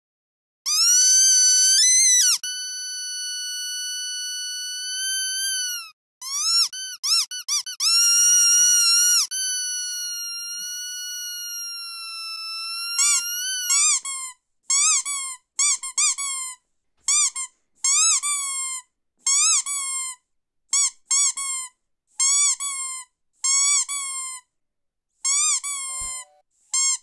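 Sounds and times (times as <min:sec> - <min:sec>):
squeaky dog toy squeaks: 0:00.7 - 0:24.4, 0:25.2 - 0:27.0.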